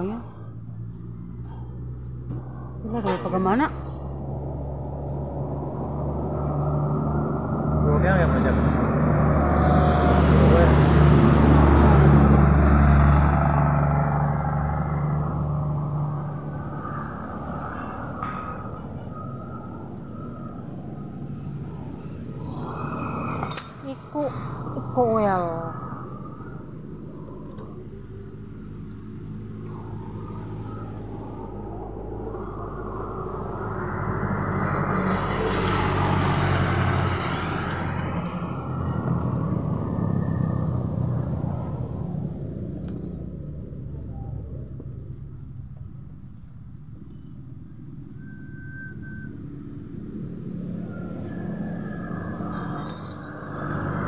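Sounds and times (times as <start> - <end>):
truck engine approaching: 0.0 - 54.0.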